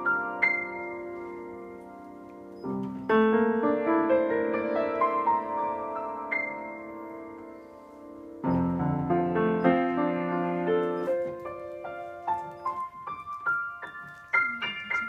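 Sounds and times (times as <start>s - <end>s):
piano playing: 0.0s - 15.0s.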